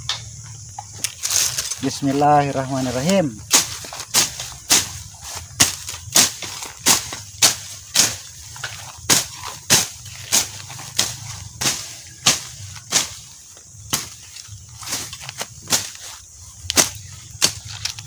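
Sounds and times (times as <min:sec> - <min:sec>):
sickle slashing through grass: 0:01.1 - 0:18.0.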